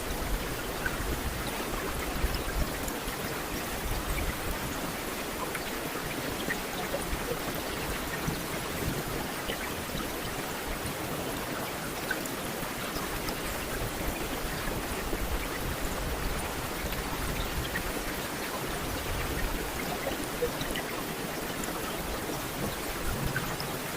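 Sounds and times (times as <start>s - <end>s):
steady rain hiss: 0.0s - 23.9s
raindrops ticking: 0.1s - 23.9s.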